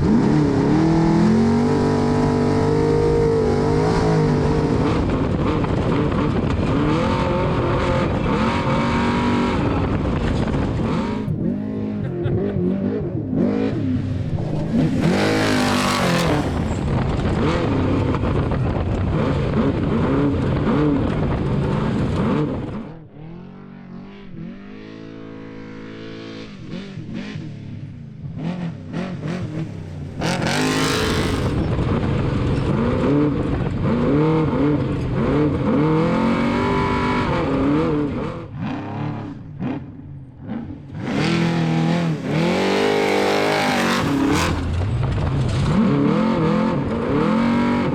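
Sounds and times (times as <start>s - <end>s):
truck engine revving: 0.0s - 32.0s, 32.6s - 47.9s.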